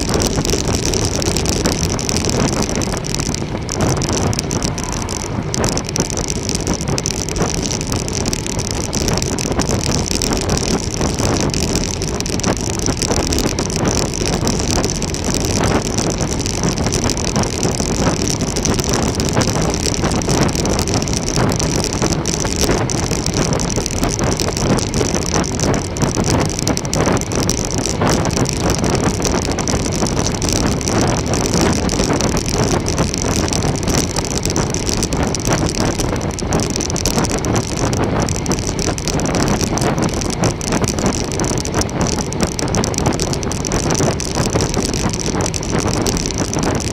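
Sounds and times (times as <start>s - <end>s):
bicycle tyre and road noise: 0.0s - 46.9s
wind rushing over microphone: 0.0s - 46.9s.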